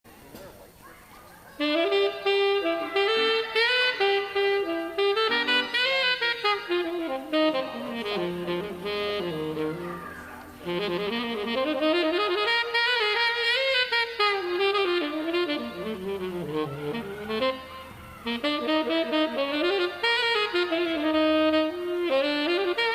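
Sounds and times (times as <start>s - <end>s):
horn playing jazzy line: 1.6s - 22.9s.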